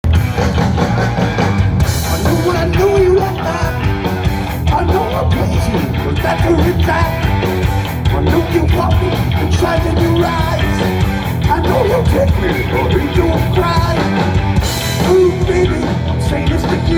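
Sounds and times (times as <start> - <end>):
rock band playing: 0.0 - 16.9.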